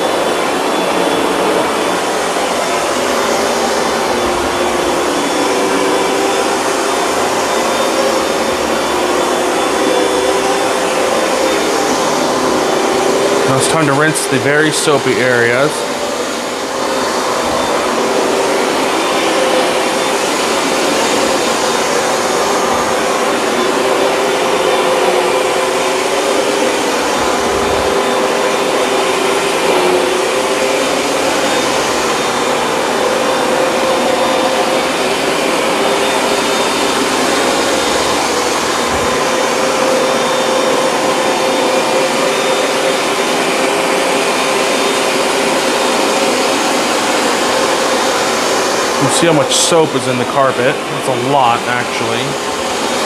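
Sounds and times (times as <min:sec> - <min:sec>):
carpet cleaner suction rushing: 0:00.0 - 0:53.0
steady motor hum: 0:00.0 - 0:53.0.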